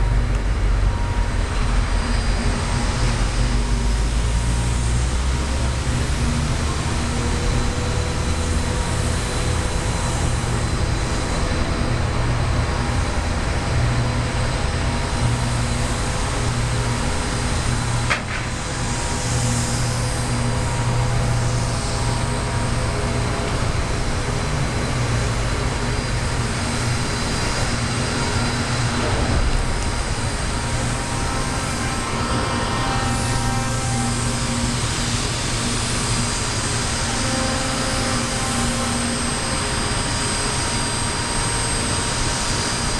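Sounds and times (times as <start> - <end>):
machinery drone with low hum: 0.0 - 42.9.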